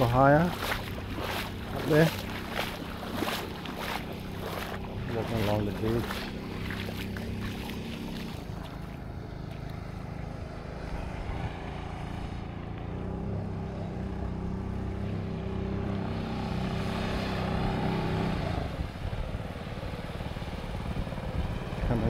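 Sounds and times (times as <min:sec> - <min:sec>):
small boat engine running: 0:00.0 - 0:22.0.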